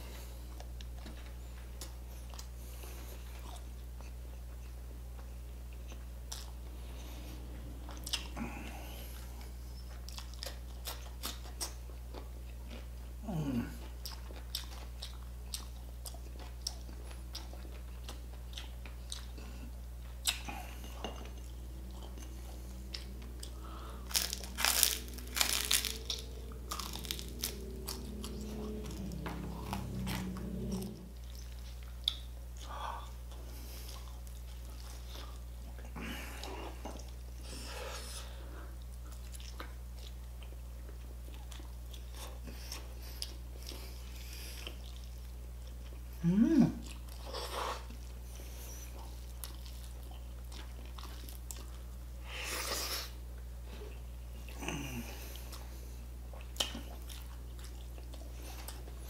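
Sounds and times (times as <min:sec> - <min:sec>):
man crunching and chewing food: 0:00.0 - 0:59.0.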